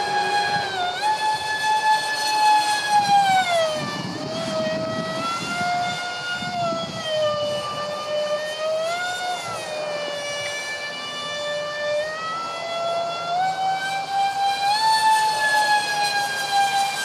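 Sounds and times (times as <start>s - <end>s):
electric ducted fans screeching: 0.0s - 17.0s.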